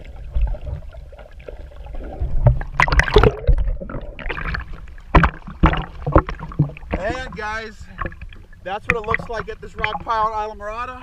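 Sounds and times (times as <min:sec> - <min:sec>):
underwater rumble and bubbling: 0:00.0 - 0:11.0
water splashing and sloshing: 0:00.0 - 0:11.0.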